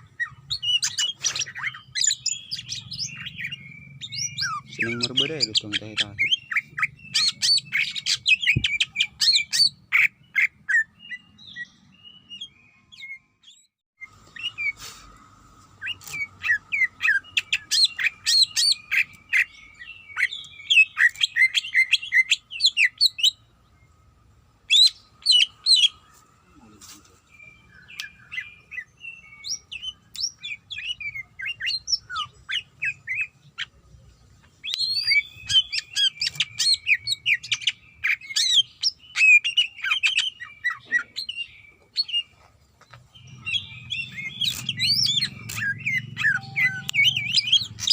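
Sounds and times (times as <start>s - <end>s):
bird singing chirps and trills: 0.0s - 14.8s, 15.8s - 47.9s.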